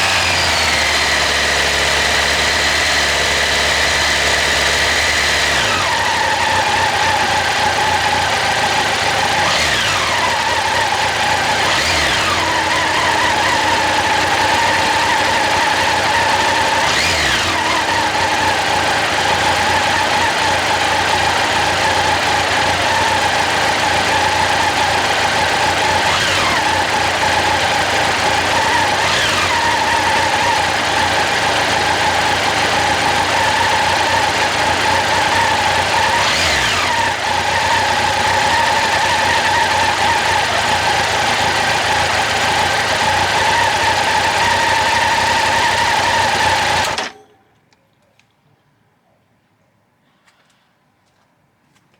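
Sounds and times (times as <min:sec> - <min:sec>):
motorcycle engine idling: 0:00.0 - 0:47.3.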